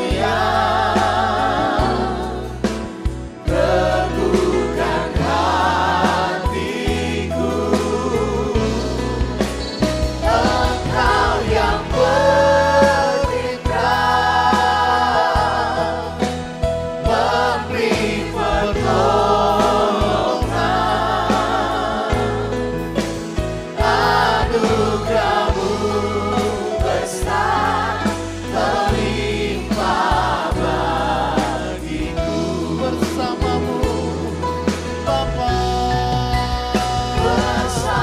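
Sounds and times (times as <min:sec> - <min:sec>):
band with sustained bass: 0:00.0 - 0:38.0
voices singing worship song: 0:00.0 - 0:38.0.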